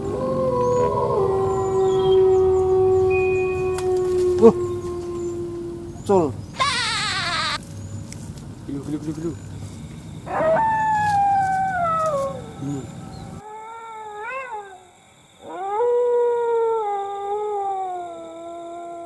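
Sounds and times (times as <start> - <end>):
dog howling: 0.0 - 7.6, 10.3 - 19.0.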